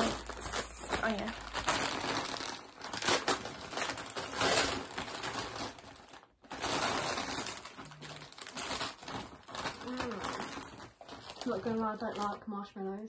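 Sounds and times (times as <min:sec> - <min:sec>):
gift bag rustling and crinkling: 0:00.0 - 0:13.0.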